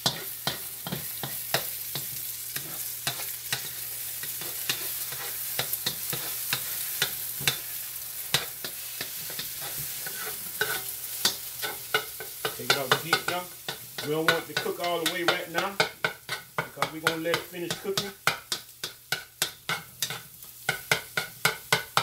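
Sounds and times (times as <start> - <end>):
wooden spatula scraping pan: 0.0 - 7.7, 8.3 - 18.2, 19.4 - 21.3
eggs sizzling in a wok: 0.0 - 22.0.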